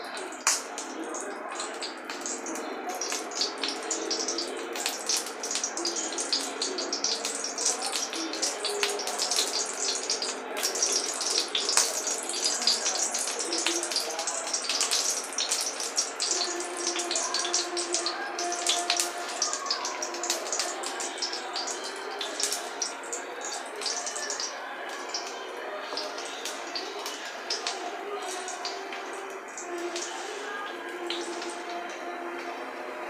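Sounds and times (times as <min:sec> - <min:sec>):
hot oil crackling in a wok: 0:00.0 - 0:32.7.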